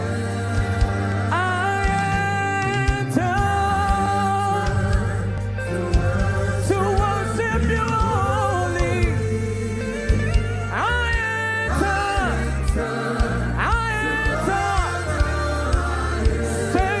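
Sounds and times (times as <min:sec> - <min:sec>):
backing band: 0:00.0 - 0:17.0
low bass: 0:00.0 - 0:17.0
person singing: 0:00.0 - 0:17.0.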